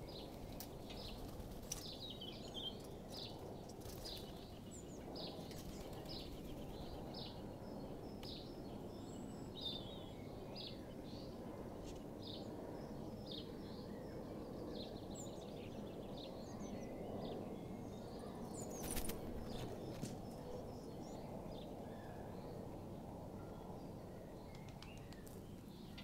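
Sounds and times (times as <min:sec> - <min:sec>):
small birds chirping: 0:00.0 - 0:22.6, 0:23.5 - 0:26.0.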